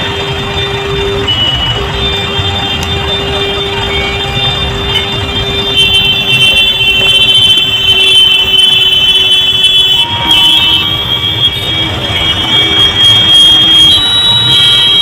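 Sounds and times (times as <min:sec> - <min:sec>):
highway traffic rumbling: 0:00.0 - 0:15.0.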